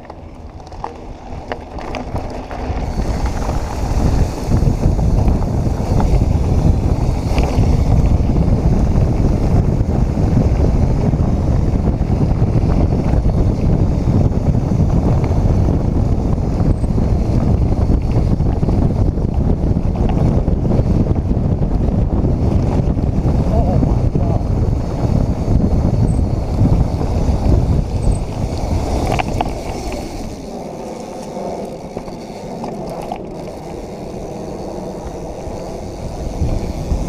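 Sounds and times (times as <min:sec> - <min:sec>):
bike tyres on dirt trail: 0:00.0 - 0:37.0
wind buffeting microphone: 0:00.0 - 0:37.0.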